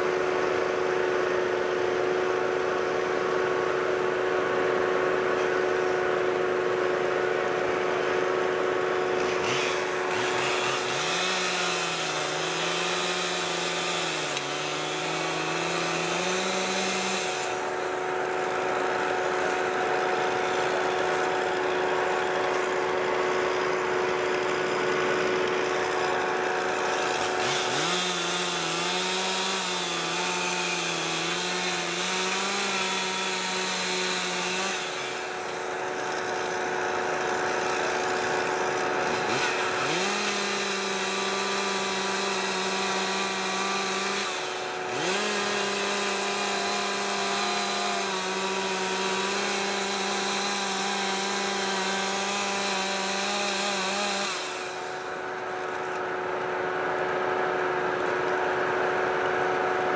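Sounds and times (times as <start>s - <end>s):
chainsaw revving: 0.0s - 59.9s
truck engine droning: 0.0s - 59.9s.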